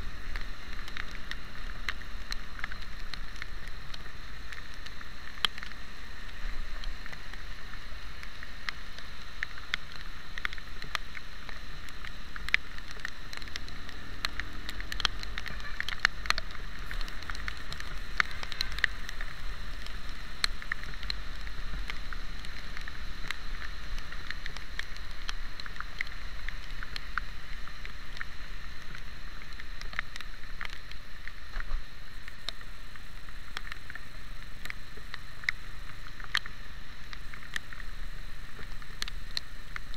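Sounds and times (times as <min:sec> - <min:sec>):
rain tapping on camera: 0:00.0 - 0:39.9
tyres on wet road: 0:00.0 - 0:39.9
wind hiss: 0:00.0 - 0:39.9.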